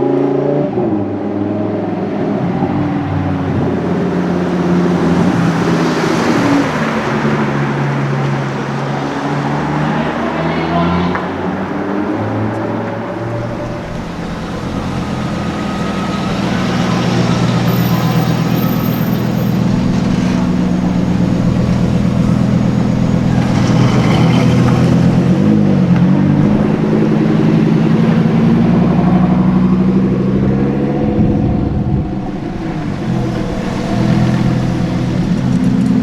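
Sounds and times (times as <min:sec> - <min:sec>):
sports car engine running: 0:03.4 - 0:36.0.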